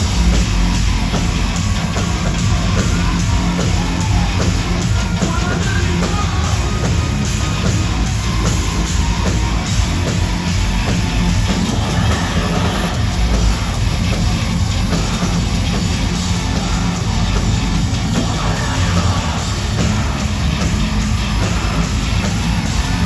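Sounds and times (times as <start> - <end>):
heavy rock band playing live: 0.0 - 23.0.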